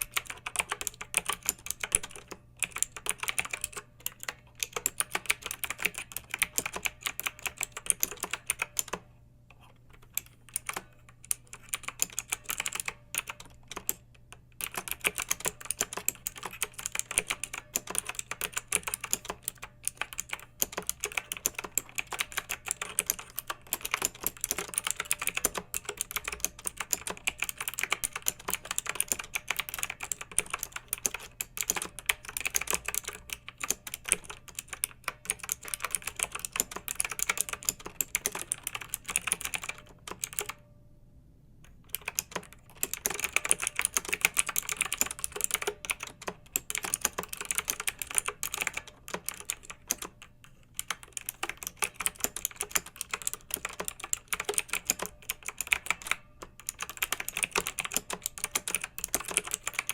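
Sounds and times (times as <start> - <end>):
mechanical keyboard typing: 0.0 - 40.6, 41.7 - 59.9.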